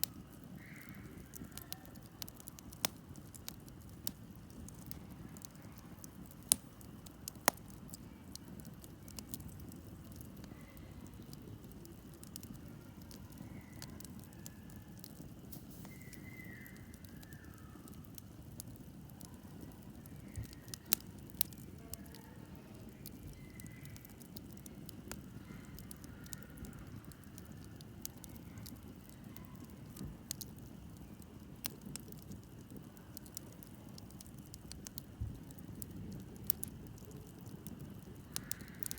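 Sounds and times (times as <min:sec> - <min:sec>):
sharp fire pops: 0:00.0 - 0:22.2, 0:22.9 - 0:38.9
campfire low rumble: 0:00.0 - 0:38.9
fire crackling: 0:00.0 - 0:38.9.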